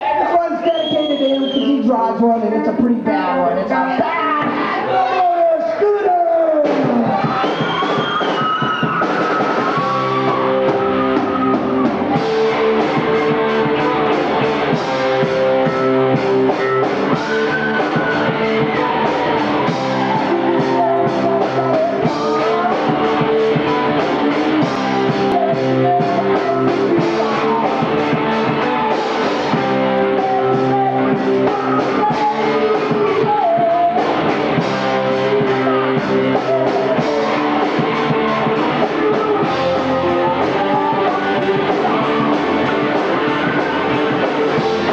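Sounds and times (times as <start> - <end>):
rock band playing live: 0.0 - 44.9
electric guitar lead bending pitch: 7.1 - 44.9.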